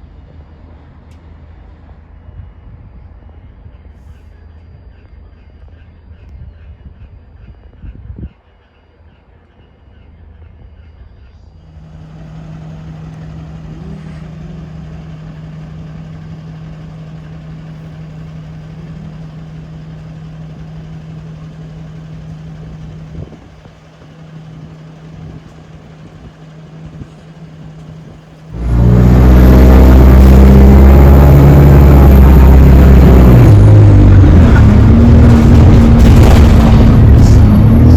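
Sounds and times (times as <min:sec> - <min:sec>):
bus pulling away with whine: 0:00.0 - 0:06.2, 0:09.7 - 0:37.9
bus engine hum: 0:00.0 - 0:08.2, 0:08.9 - 0:37.9.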